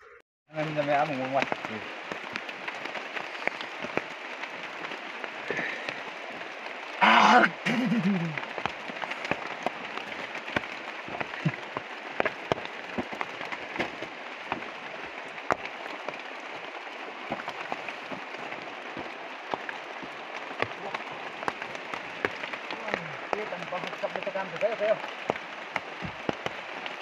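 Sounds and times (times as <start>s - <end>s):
rain on foliage: 0.5s - 27.0s
drops ticking on leaves: 0.6s - 27.0s.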